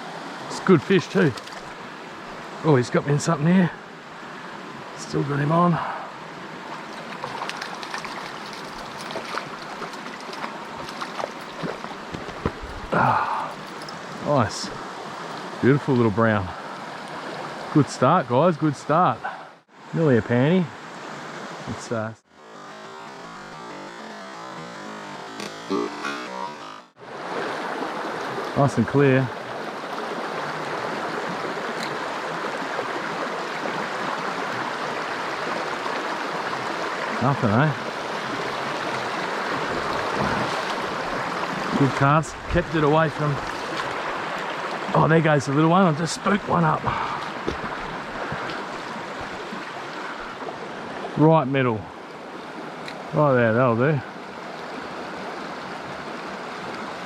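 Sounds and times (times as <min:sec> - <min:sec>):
creek water running: 0:00.0 - 0:57.0.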